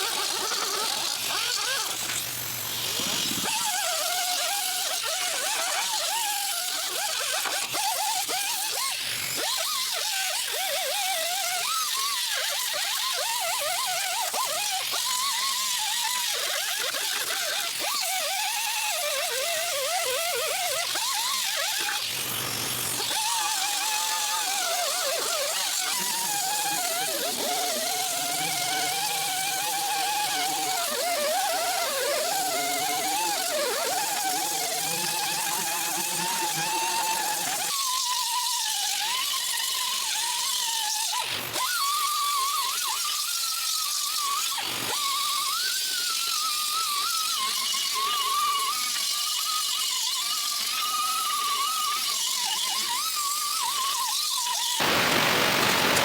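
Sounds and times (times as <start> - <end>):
power tool whining on metal: 0.0 - 56.0.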